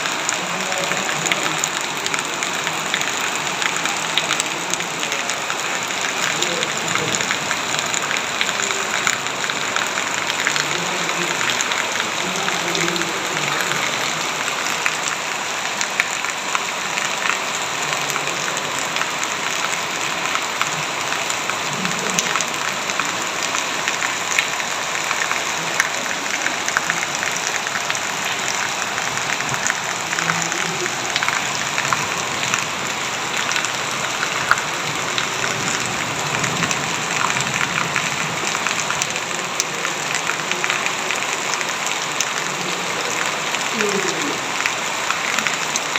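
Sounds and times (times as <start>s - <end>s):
heavy rain falling: 0.0s - 45.9s
raindrops ticking on surface: 0.0s - 45.9s.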